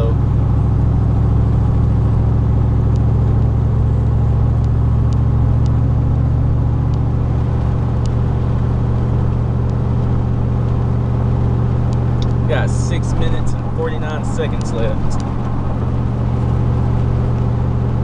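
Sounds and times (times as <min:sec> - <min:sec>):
engine and exhaust drone: 0:00.0 - 0:18.0
road noise: 0:00.0 - 0:18.0.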